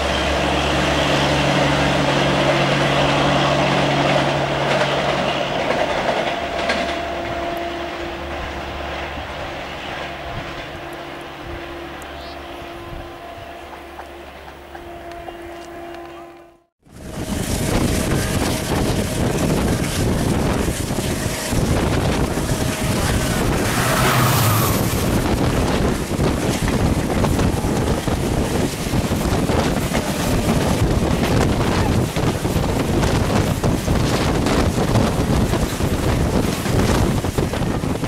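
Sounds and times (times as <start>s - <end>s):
wind buffeting microphone: 0.0s - 15.6s, 16.8s - 38.0s
train wheels rumbling and clattering: 0.0s - 16.2s, 16.8s - 38.0s.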